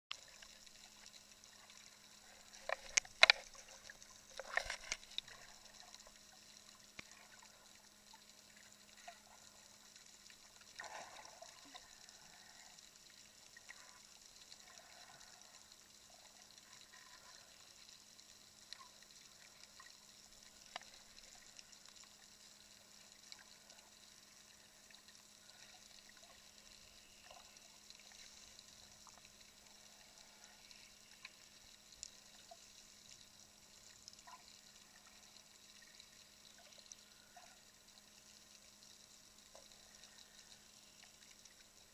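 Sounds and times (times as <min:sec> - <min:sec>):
faint underwater water movement: 0:00.1 - 0:41.9
low electrical hum: 0:00.1 - 0:41.9
small clicks and crackles: 0:00.1 - 0:41.9.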